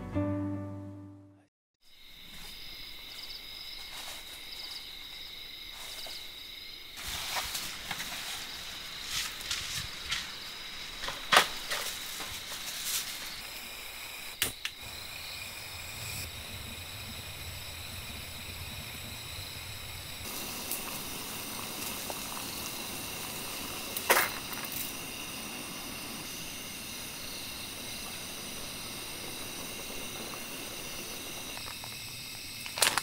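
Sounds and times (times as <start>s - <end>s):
steady background hiss: 3.9s - 33.0s.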